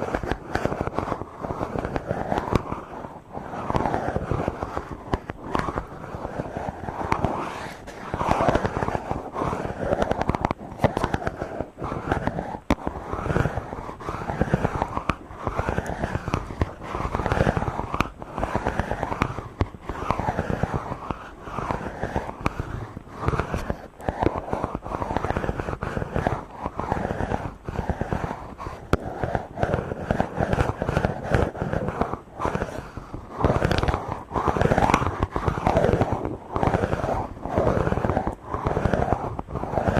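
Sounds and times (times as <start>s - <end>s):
microphone being rubbed: 0.0s - 39.9s
microphone handling crackles and clicks: 0.0s - 39.9s.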